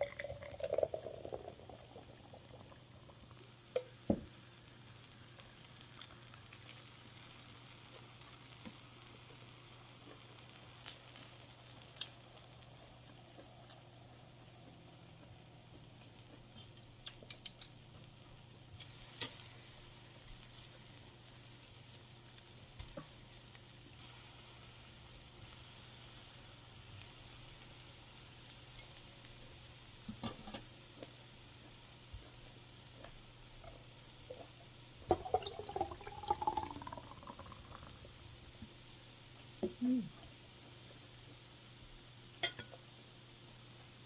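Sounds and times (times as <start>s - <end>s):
food sizzling on a grill pan: 0.0s - 44.0s.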